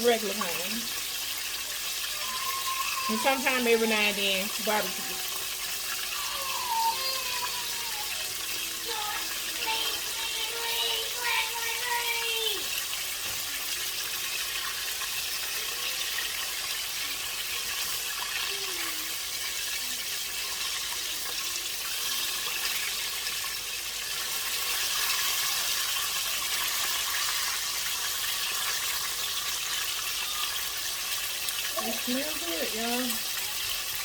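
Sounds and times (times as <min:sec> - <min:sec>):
wings sizzling in deep fryer: 0:00.0 - 0:34.0.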